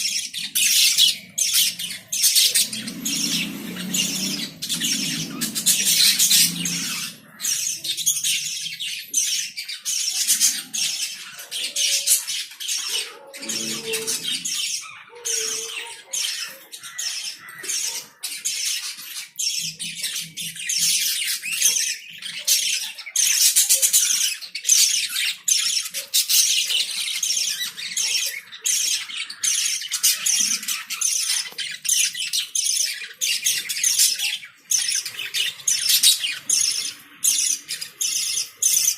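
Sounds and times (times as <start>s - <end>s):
lovebirds chirping and squawking: 0.0s - 38.9s.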